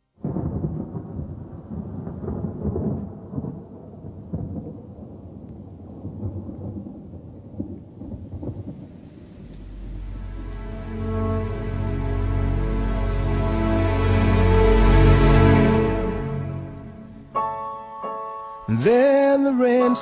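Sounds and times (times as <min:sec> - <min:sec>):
rain: 0:00.1 - 0:17.4
thunder rumbling: 0:00.2 - 0:17.6.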